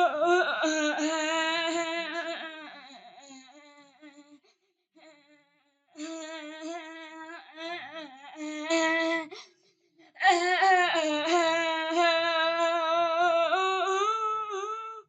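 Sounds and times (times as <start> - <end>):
person humming melody: 0.0 - 4.2, 6.0 - 9.2, 10.2 - 15.0.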